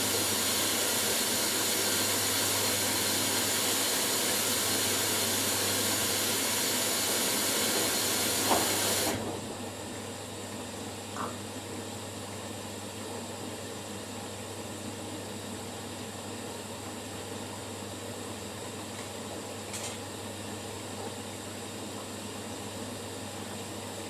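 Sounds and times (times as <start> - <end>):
washing machines humming: 0.0 - 24.0.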